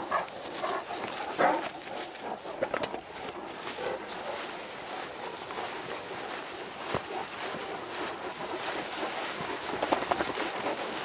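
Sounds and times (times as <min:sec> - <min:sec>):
dogs panting: 0:00.0 - 0:11.0
rustling through long grass: 0:00.0 - 0:11.0.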